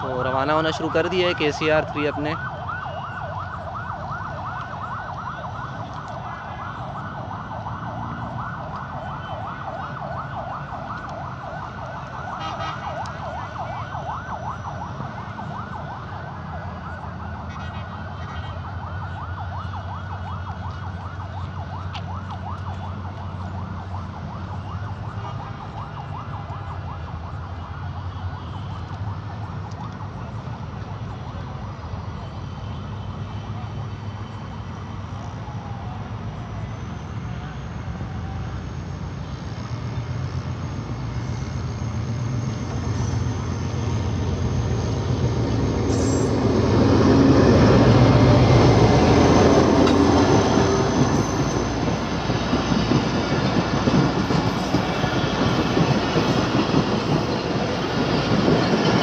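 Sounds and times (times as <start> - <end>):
diesel locomotive engine hum: 0.0 - 59.0
warbling siren: 0.0 - 59.0.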